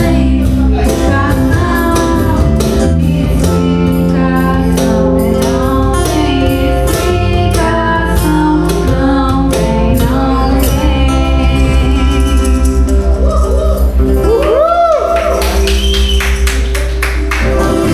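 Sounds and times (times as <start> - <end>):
band playing song with singing: 0.0 - 17.9
percussion strikes: 0.0 - 17.9
pulsing bass line: 0.0 - 17.9.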